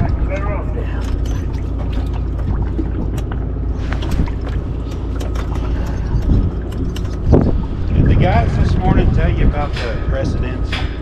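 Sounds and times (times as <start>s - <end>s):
outboard motor idling: 0.0s - 9.6s.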